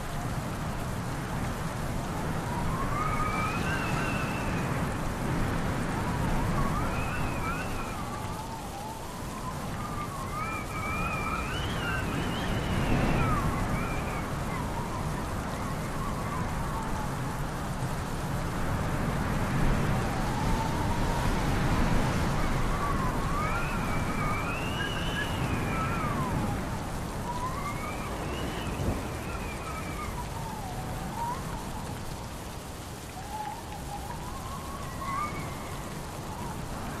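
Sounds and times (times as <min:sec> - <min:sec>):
gusting wind: 0:00.0 - 0:37.0
steady rain: 0:00.0 - 0:37.0
thin wavering whistling tone: 0:02.5 - 0:04.7, 0:05.9 - 0:17.4, 0:20.0 - 0:37.0.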